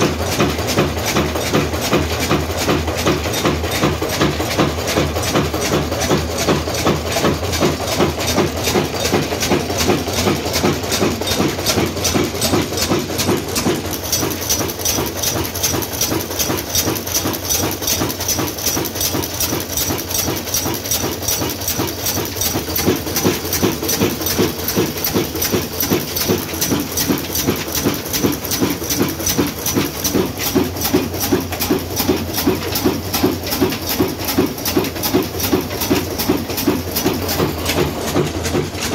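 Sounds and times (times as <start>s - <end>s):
diesel engine exhaust chuffing: 0.0s - 38.9s.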